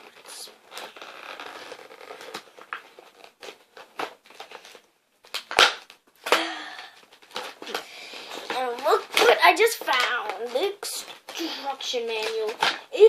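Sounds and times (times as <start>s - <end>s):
cardboard packaging rustling: 0.0s - 13.0s.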